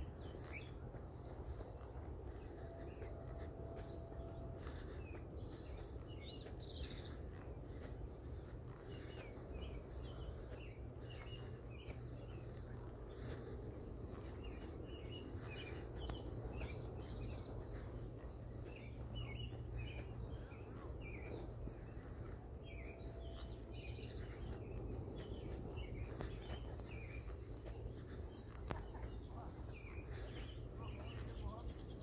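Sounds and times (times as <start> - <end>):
low background hum: 0.0 - 32.0
small birds chirping: 0.0 - 32.0.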